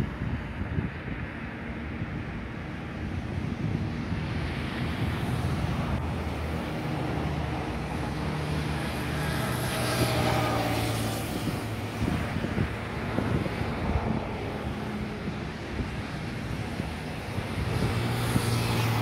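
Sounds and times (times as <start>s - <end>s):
jet engines humming and hissing: 0.0s - 19.0s.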